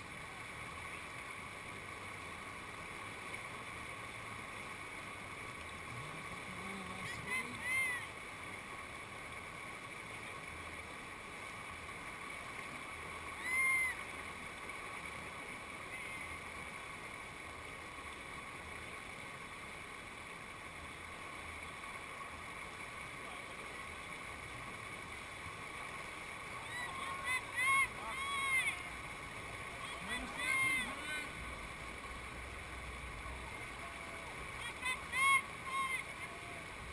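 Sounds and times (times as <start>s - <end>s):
river whitewater rushing: 0.0s - 36.9s.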